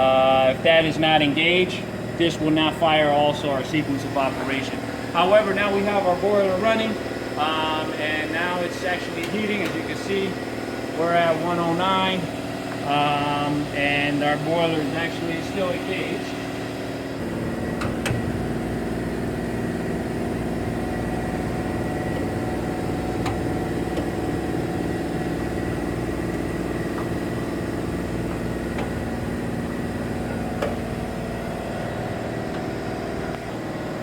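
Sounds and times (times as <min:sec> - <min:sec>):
boiler humming: 0:00.0 - 0:34.0.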